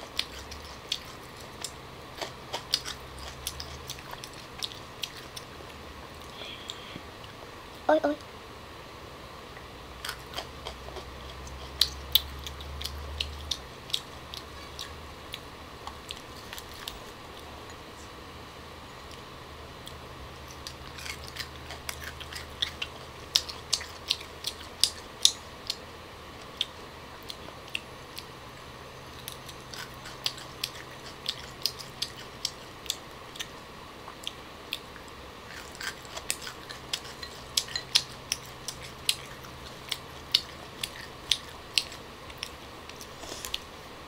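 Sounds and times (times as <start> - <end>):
crunchy pods being chewed: 0.0 - 7.8, 10.0 - 17.9, 19.0 - 43.8.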